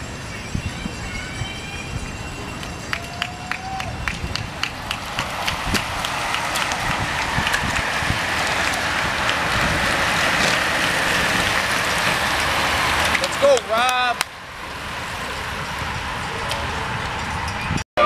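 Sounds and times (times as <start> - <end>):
bicycles whirring past on asphalt: 0.1 - 17.8.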